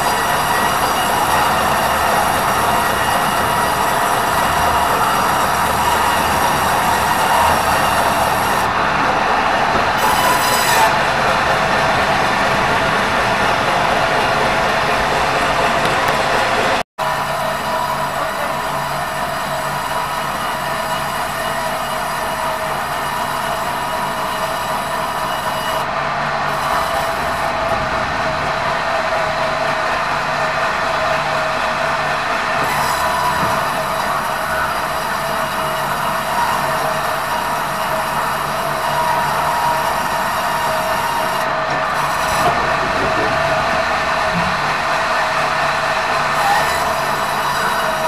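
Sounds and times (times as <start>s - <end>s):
band saw whining: 0.0s - 48.0s.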